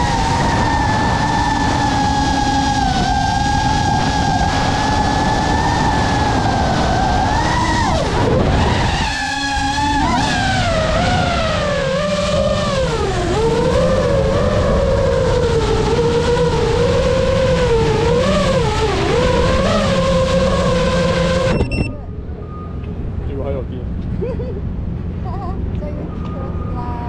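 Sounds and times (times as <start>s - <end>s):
drone motors whining: 0.0s - 23.2s.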